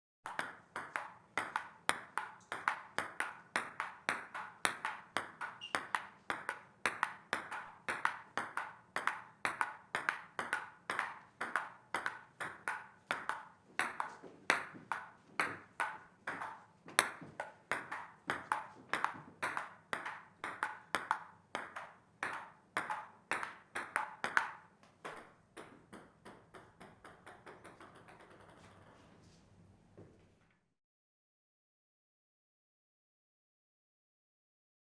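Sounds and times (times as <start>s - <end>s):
ping pong ball ticking on paddle: 0.3s - 28.9s
ball bouncing to rest: 0.3s - 29.0s.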